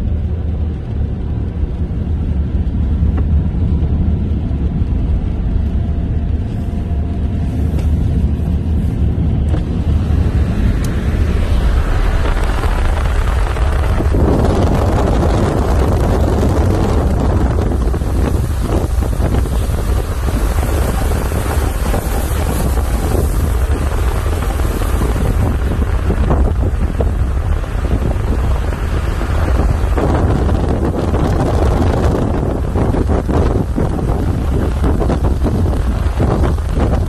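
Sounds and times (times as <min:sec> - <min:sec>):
car road rumble: 0:00.0 - 0:37.0
wind buffeting microphone: 0:00.0 - 0:37.0
wind rushing: 0:02.0 - 0:37.0.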